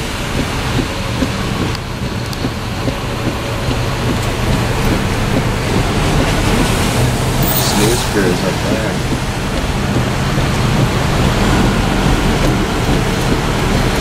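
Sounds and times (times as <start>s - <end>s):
heavy rain: 0.0s - 14.0s
low rumble: 0.0s - 14.0s
wind: 0.0s - 14.0s.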